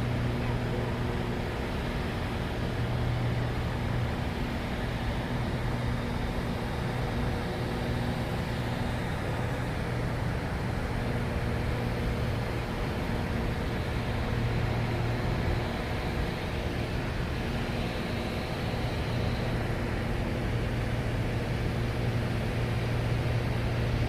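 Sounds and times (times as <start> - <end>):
constant rushing noise: 0.0 - 24.0
helicopter cabin hum: 0.0 - 24.0.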